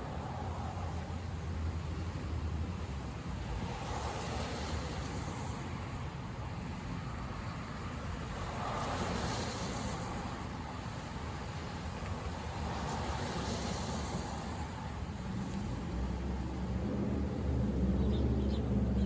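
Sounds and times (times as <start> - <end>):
engine and road rumble: 0.0 - 19.0
rain: 0.0 - 19.0
tyres hissing on wet road: 0.0 - 19.0.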